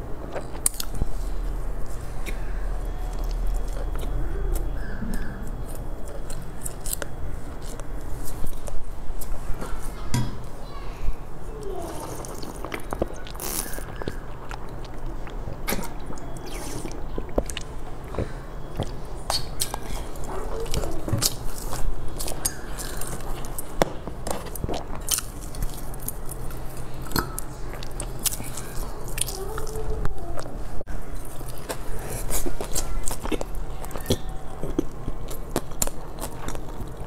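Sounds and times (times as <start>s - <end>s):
chewing with mouth clicks: 0.3s - 9.3s, 11.6s - 30.5s, 31.2s - 37.0s.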